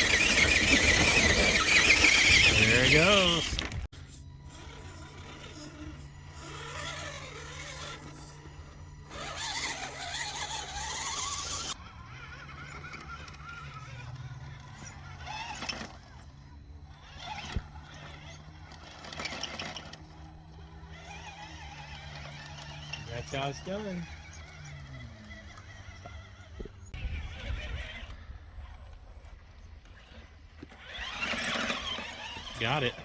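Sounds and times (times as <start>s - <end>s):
electric motor and gears whining: 0.0s - 33.0s.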